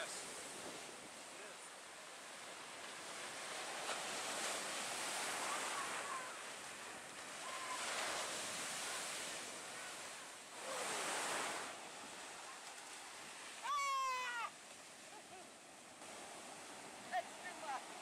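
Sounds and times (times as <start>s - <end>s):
ocean surf breaking: 0.0s - 18.0s.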